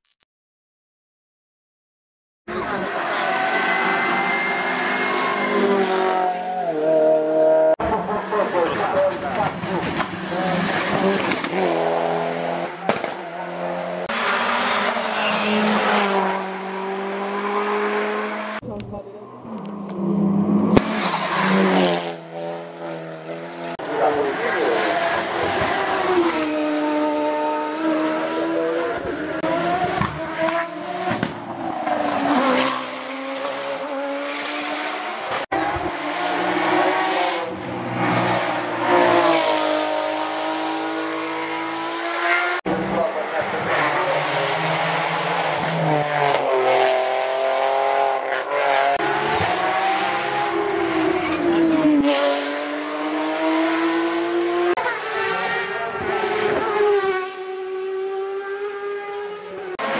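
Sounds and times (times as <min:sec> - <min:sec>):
race car engines accelerating: 0:02.5 - 0:59.9.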